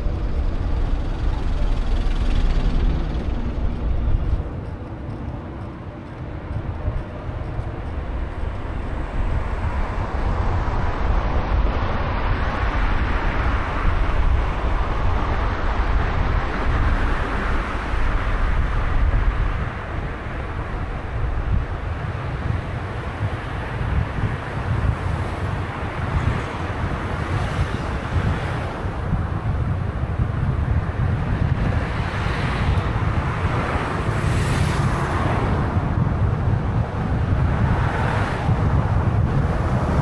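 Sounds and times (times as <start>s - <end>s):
road traffic noise: 0.0s - 40.0s
wind rumble on microphone: 0.0s - 40.0s.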